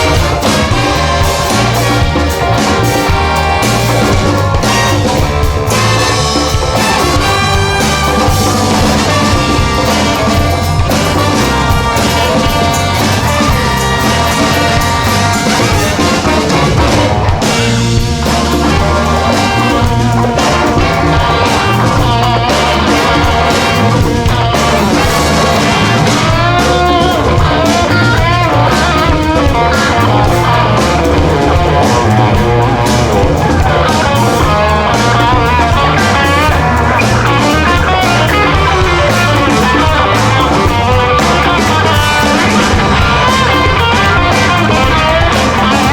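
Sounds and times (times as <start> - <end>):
electric guitar bending notes: 0.0 - 45.9
live funk band playing: 0.0 - 45.9.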